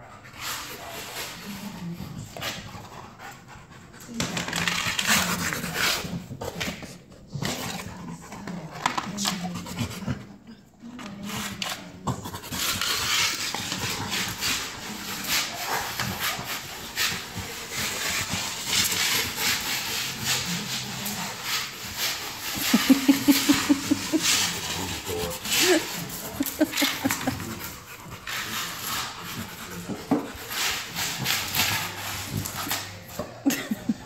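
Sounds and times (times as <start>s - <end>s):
dog panting: 0.2s - 10.6s, 11.3s - 33.7s.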